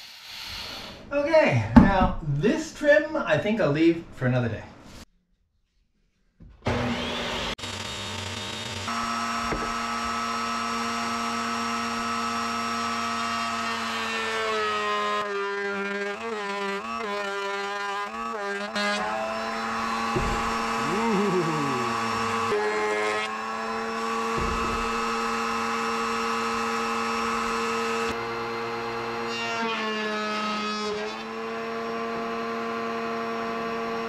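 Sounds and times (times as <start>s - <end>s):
router whining: 6.6s - 34.0s.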